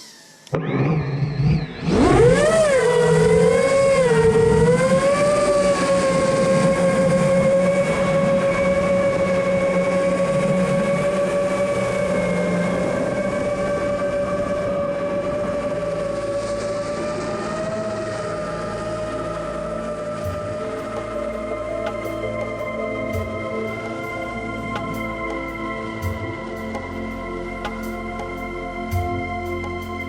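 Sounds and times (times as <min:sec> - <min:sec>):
drone propellers whining: 0:00.0 - 0:30.0.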